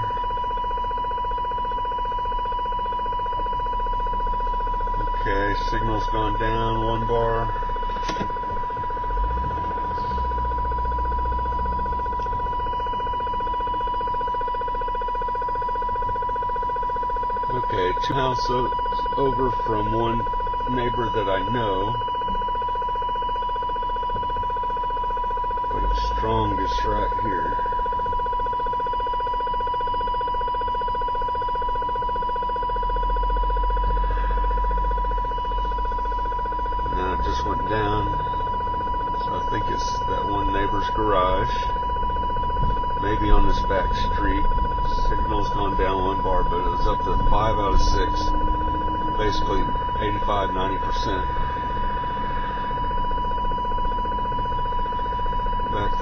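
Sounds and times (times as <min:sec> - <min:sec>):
radio interference tone and buzz: 0:00.0 - 0:56.0.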